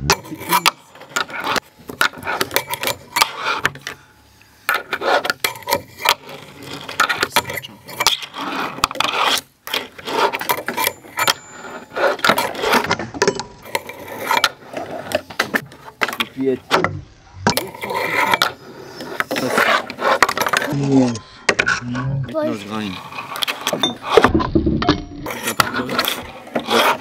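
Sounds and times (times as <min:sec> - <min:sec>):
fingerboard rolling and sliding scrapes: 0:00.4 - 0:03.9, 0:04.7 - 0:16.4, 0:17.7 - 0:22.0, 0:22.8 - 0:24.6, 0:25.2 - 0:27.0.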